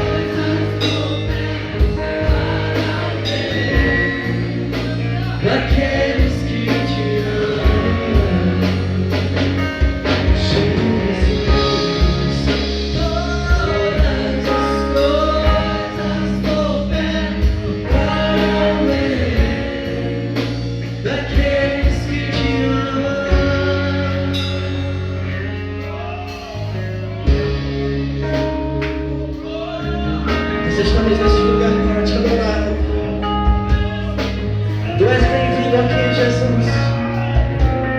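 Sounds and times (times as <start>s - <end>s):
bass guitar: 0.0s - 37.9s
drum kit beat: 0.0s - 37.9s
guitar: 0.0s - 37.9s
people singing gospel: 0.0s - 37.9s.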